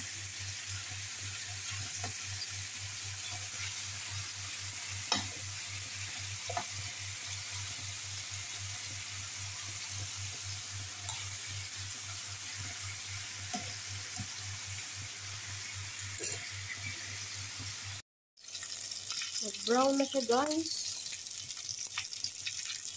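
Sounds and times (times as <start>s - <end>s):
meat sizzling in a frying pan: 0.0s - 22.9s.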